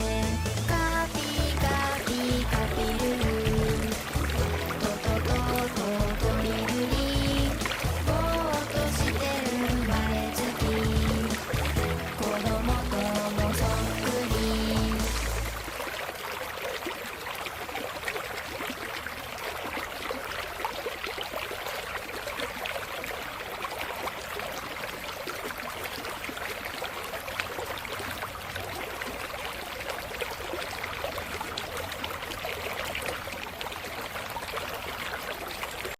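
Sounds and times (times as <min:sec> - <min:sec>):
water splashing trickle: 0:00.0 - 0:35.9.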